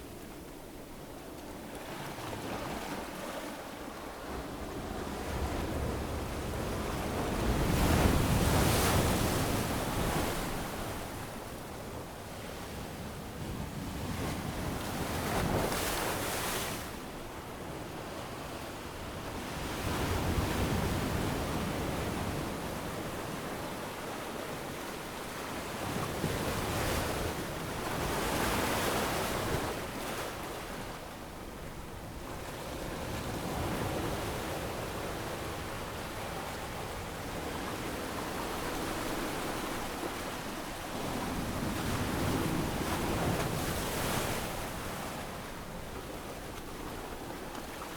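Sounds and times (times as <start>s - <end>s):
wind: 0.0s - 47.9s.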